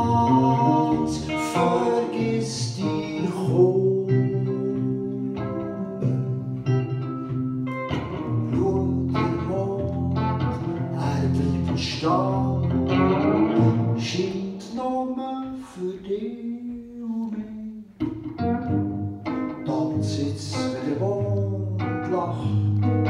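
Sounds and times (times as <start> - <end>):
electric guitar playing slow song: 0.0 - 23.0.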